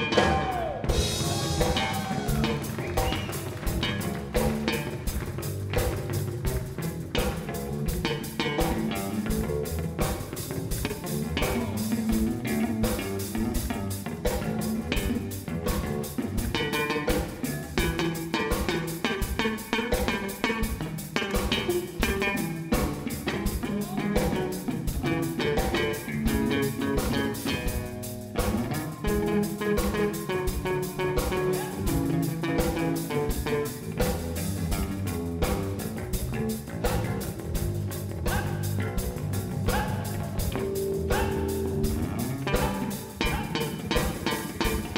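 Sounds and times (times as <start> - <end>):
bass: 0.0 - 44.9
drum kit beat: 0.0 - 44.9
electric guitar: 0.0 - 44.9.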